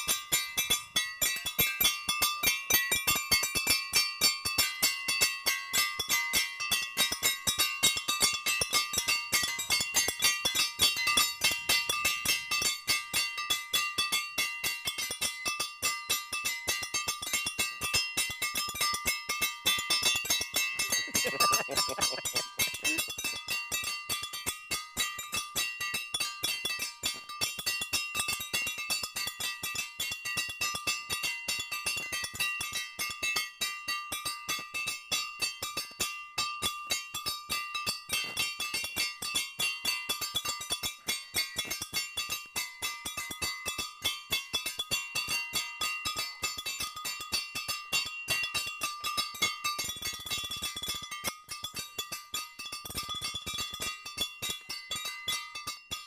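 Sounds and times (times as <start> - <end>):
small bells struck rhythmically: 0.0 - 56.0.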